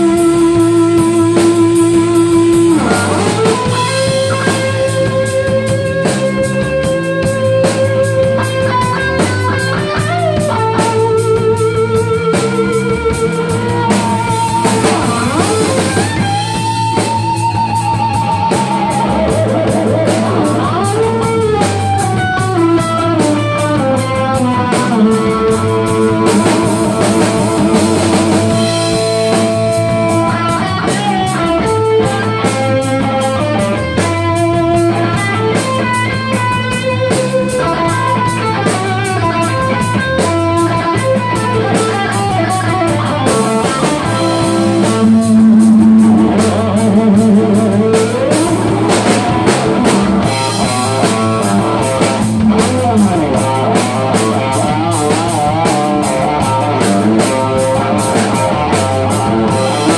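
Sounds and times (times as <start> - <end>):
bass guitar: 0.0 - 59.9
drums: 0.0 - 59.9
electric guitar solo: 0.0 - 59.9.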